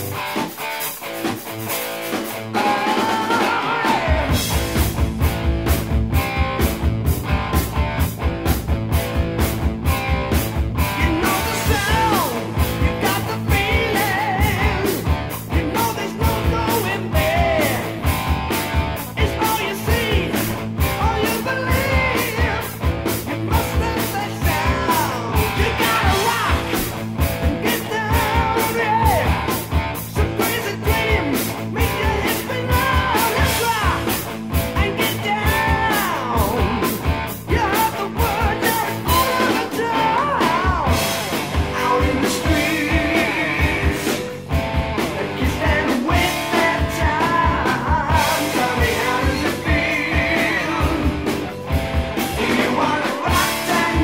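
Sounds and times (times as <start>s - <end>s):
rock song with singing: 0.0s - 54.0s.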